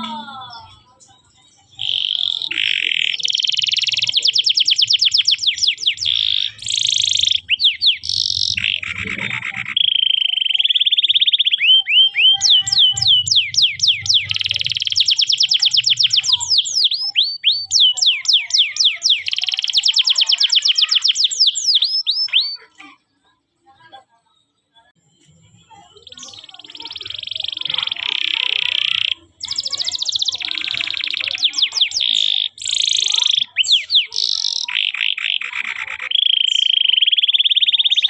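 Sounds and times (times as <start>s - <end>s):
canary singing: 0.0s - 23.2s, 24.4s - 38.0s.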